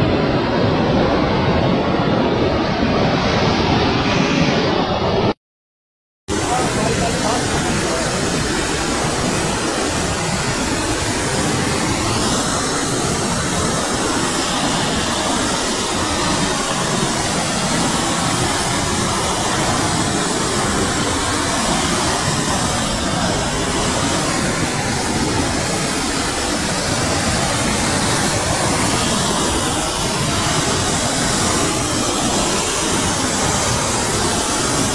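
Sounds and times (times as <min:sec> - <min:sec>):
river rushing over waterfall: 0:06.3 - 0:34.9.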